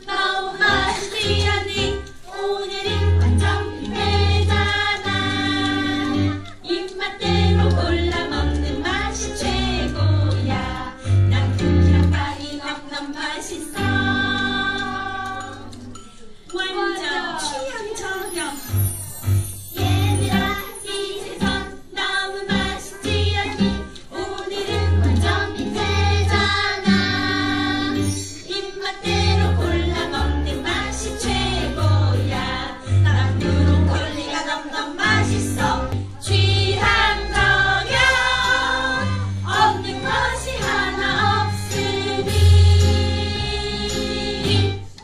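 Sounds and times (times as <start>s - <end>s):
group of voices singing: 0.0s - 15.9s, 19.7s - 45.0s.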